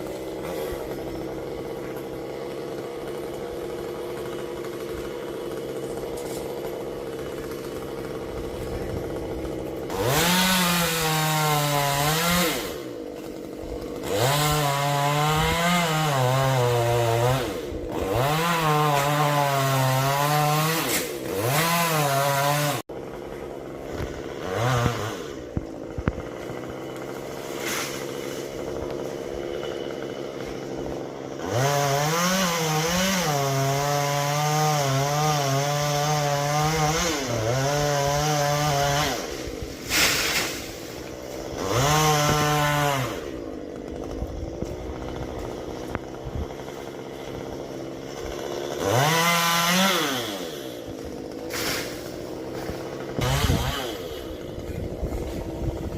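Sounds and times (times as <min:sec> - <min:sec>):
chainsaw revving and cutting wood: 0:00.0 - 0:55.9.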